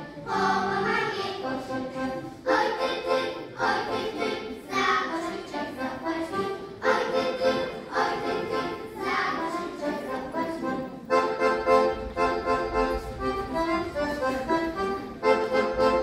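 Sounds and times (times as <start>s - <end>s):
accordion folk dance tune: 0.0s - 16.0s.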